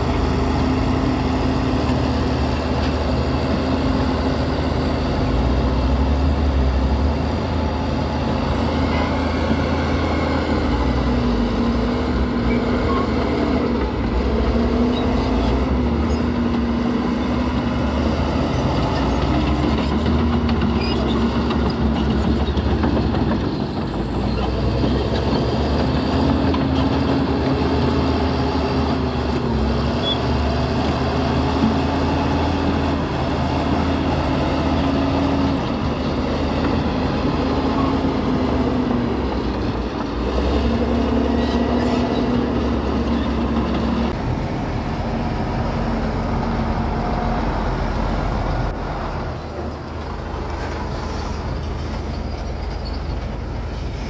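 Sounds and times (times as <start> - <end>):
diesel machinery rumbling: 0.0 - 54.0.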